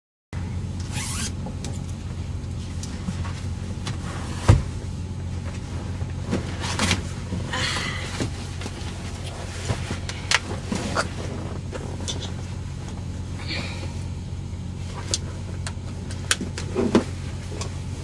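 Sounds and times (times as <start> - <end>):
car engine hum from inside cabin: 0.4 - 18.0.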